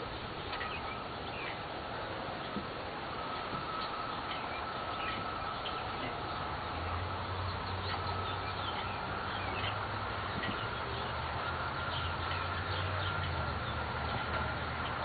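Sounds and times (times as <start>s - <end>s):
low steady hum: 0.0s - 15.0s
outdoor background hiss: 0.0s - 15.0s
small birds chirping: 0.0s - 15.0s.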